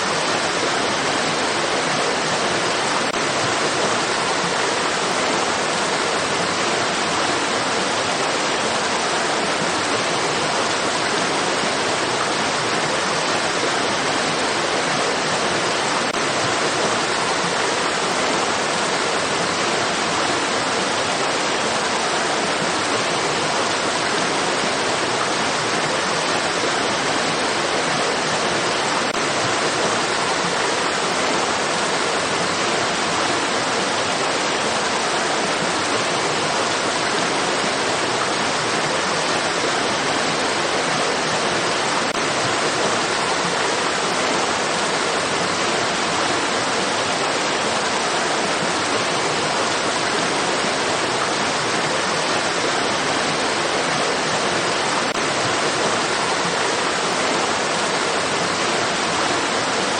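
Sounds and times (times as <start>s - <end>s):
rushing stream water: 0.0s - 59.9s.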